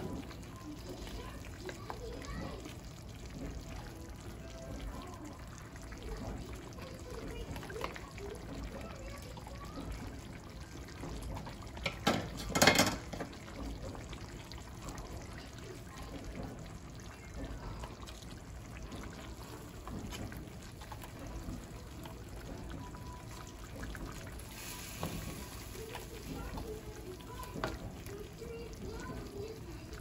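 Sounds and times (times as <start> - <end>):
wooden spoon stirring broth: 0.0 - 30.0.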